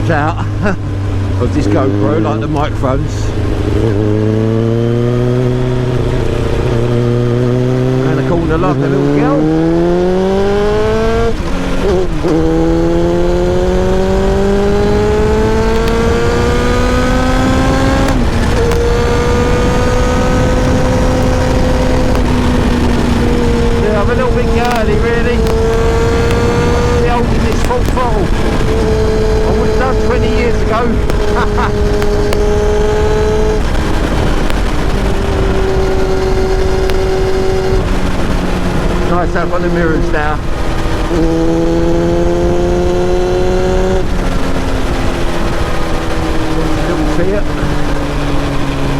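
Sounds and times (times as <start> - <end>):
gear changes: 0.0 - 48.9
heavy wind rush: 0.0 - 48.9
motorcycle engine accelerating: 0.0 - 48.9.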